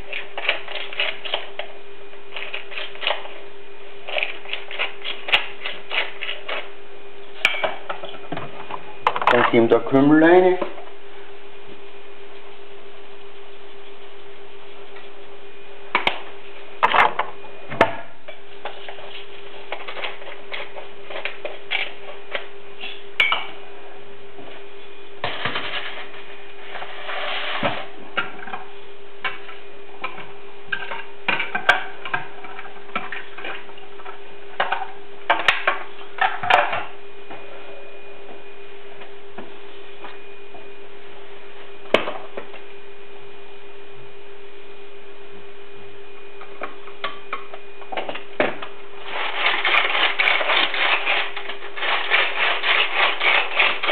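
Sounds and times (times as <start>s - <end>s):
steady electrical hum: 0.0s - 53.9s.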